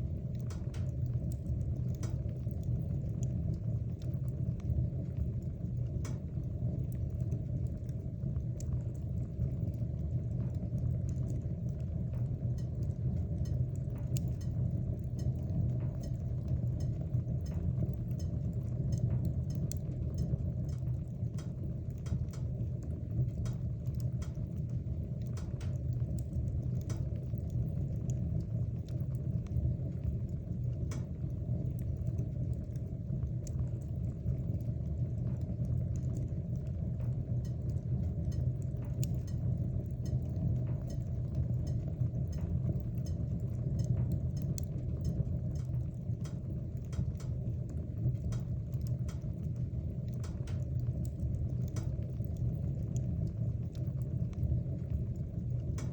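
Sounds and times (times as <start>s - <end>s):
fire flames rumbling: 0.0s - 55.9s
logs crackling and popping: 0.0s - 55.9s.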